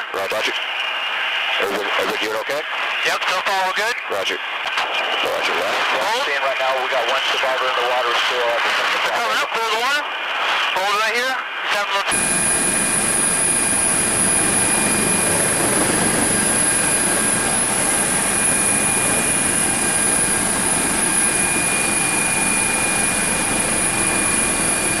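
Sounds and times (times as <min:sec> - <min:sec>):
helicopter rotor rush: 0:00.0 - 0:25.0
turbine engine whine: 0:00.3 - 0:25.0.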